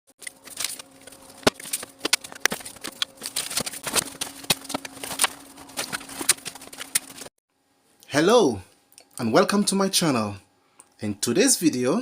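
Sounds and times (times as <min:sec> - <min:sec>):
faint steady hum: 0:00.2 - 0:12.0.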